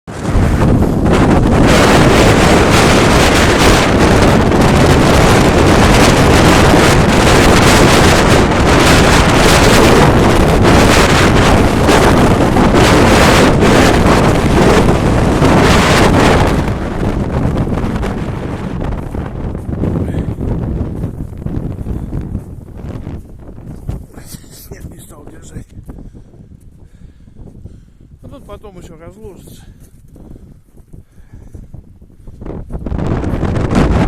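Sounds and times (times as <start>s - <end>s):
strong wind buffeting microphone: 0.1s - 34.0s.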